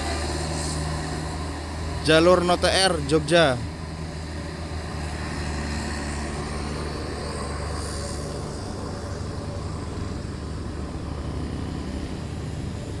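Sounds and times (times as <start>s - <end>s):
bus diesel engine running: 0.0s - 11.2s.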